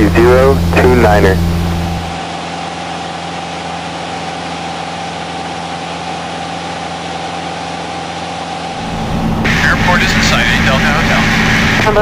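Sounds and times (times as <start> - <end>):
aircraft engine and propeller droning: 0.0 - 12.0.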